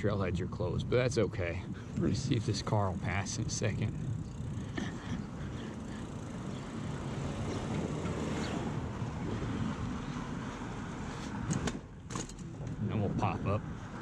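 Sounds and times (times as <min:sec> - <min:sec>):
wind rush on microphone: 0:00.3 - 0:11.9.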